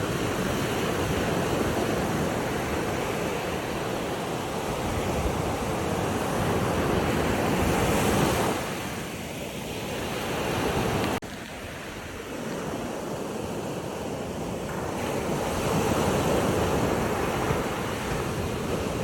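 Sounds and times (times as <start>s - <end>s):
ocean surf washing on shore: 0.0s - 19.0s.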